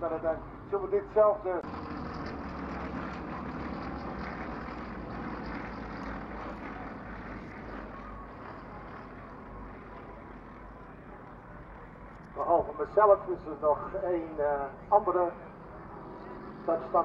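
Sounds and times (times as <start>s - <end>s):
plane engines droning overhead: 0.0s - 17.0s.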